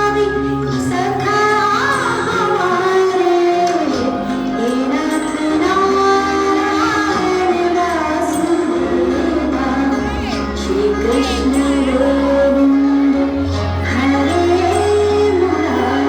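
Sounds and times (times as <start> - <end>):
instrumental accompaniment: 0.0 - 16.0
person singing a melody: 0.0 - 16.0.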